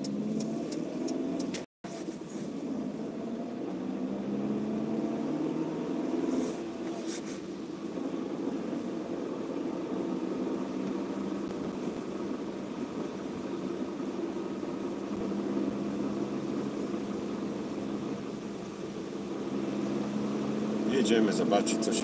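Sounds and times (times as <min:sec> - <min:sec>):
car engine hum: 0:00.0 - 0:22.0
tyres on wet road: 0:00.0 - 0:22.0.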